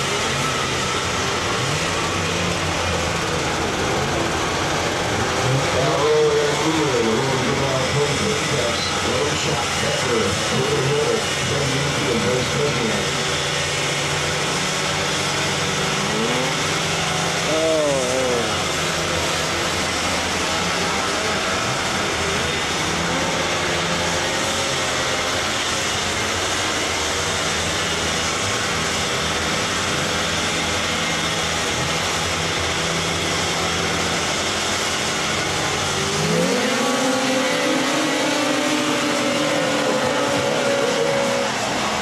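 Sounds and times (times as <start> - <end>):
snowmobile engines idling and revving: 0.0 - 42.0.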